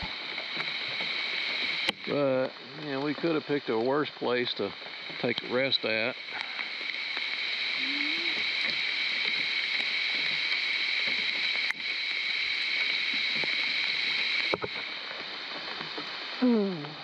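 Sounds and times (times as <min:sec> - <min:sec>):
heavy rain on water: 0:00.0 - 0:17.0.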